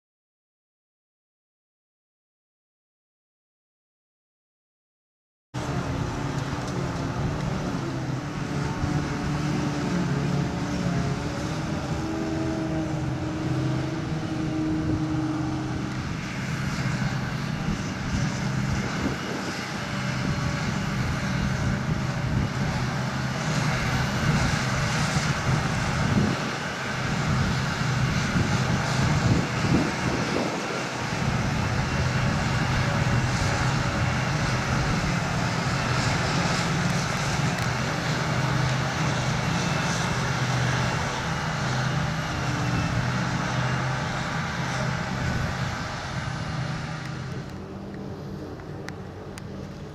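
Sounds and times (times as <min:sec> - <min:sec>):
diesel engines droning: 0:05.6 - 0:49.9.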